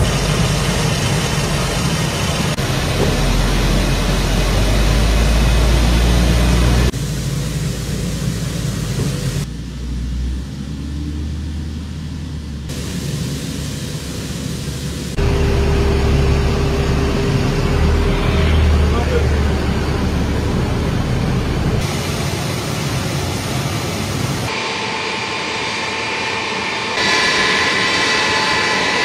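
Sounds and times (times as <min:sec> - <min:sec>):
military vehicle engine rumble: 0:00.0 - 0:24.5
steady whine: 0:00.0 - 0:29.0.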